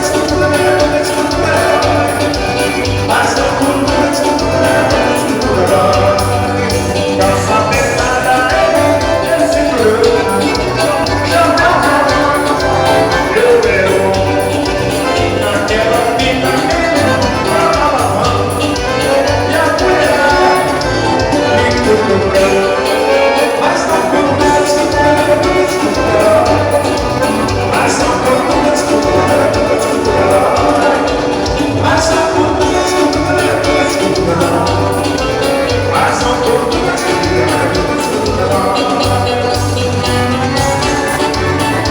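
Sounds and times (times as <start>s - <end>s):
band music with singing: 0.0s - 41.9s.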